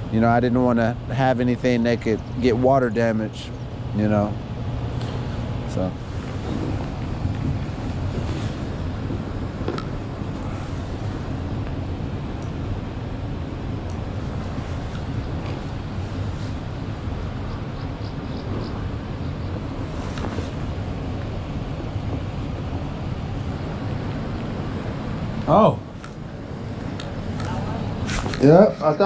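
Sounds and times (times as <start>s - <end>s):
wind on microphone: 5.2s - 28.4s.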